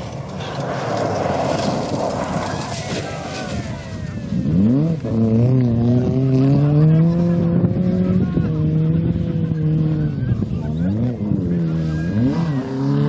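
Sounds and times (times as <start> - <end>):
rally car engine accelerating: 0.1 - 13.0.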